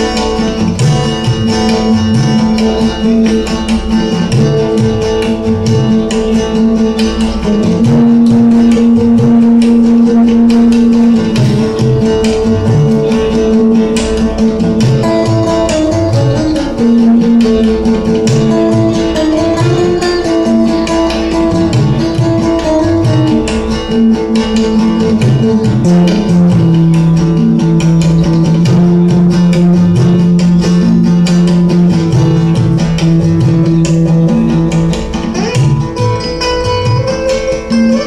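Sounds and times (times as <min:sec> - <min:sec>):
guitars playing: 0:00.0 - 0:38.0
tabla: 0:00.0 - 0:38.0.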